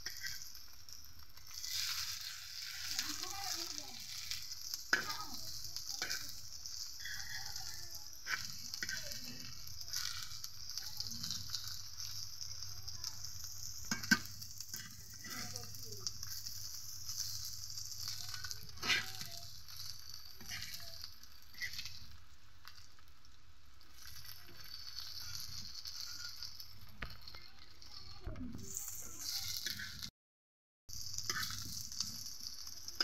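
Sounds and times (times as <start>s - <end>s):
metal spatula scraping a pan: 0.0s - 22.9s, 23.8s - 30.1s, 30.9s - 33.0s
fritters sizzling in oil: 0.0s - 30.1s, 30.9s - 33.0s.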